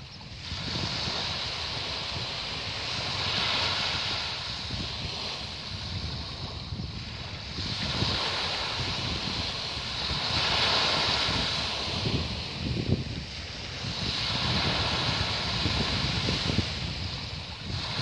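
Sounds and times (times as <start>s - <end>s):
small waves lapping on beach: 0.0s - 18.0s.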